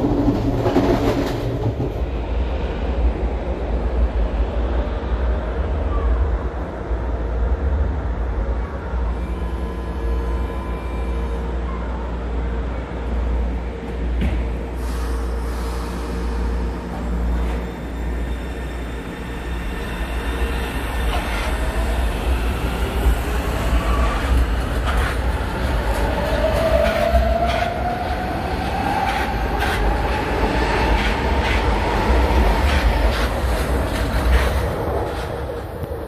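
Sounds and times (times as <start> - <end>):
electric train rumbling past: 0.0 - 36.0.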